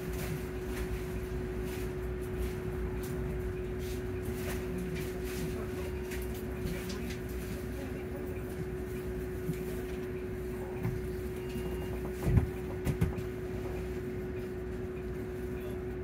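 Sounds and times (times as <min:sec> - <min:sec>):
bus drivetrain hum: 0:00.0 - 0:16.0.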